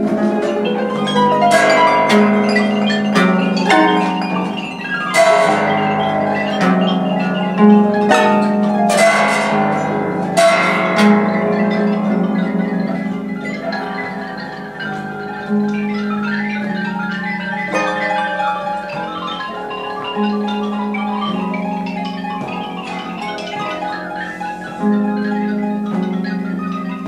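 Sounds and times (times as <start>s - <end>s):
loud struck chords: 0.0s - 25.1s
marimba and xylophone notes: 0.0s - 27.0s
plucked harp strings: 0.0s - 27.0s.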